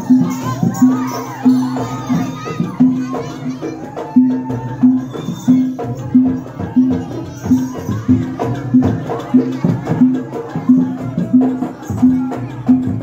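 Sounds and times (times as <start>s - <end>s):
wavering melody: 0.0s - 12.5s
percussion strikes: 0.0s - 13.0s.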